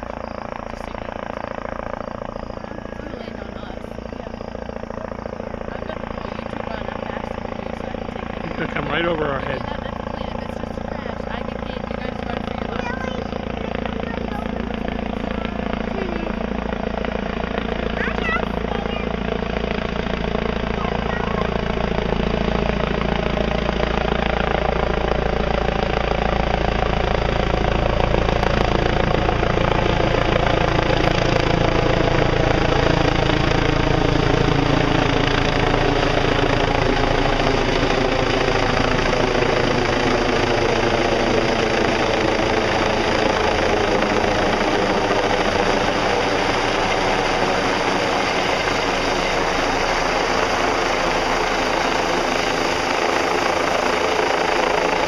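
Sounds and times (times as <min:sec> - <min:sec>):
helicopter hovering overhead: 0:00.0 - 0:55.0.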